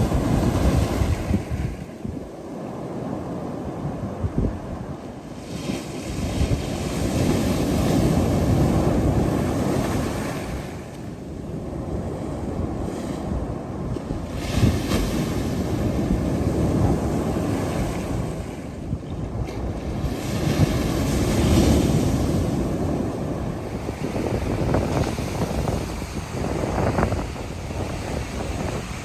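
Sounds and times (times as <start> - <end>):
sea surf washing: 0.0 - 29.0
wind buffeting microphone: 0.0 - 29.0.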